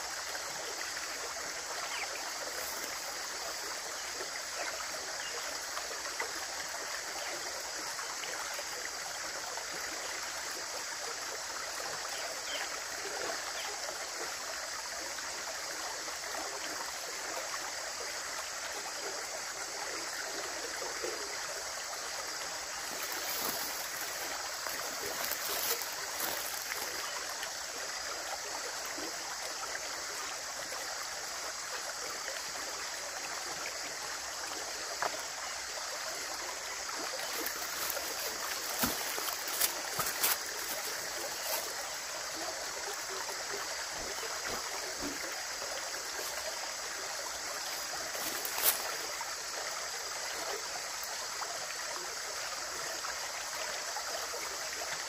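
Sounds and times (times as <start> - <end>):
running water splashing: 0.0 - 14.2, 14.9 - 51.4.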